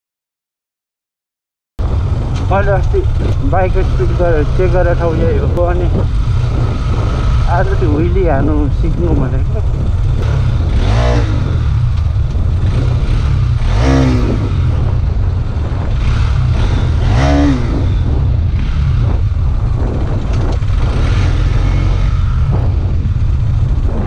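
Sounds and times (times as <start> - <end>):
vehicle low rumble: 1.8 - 24.0.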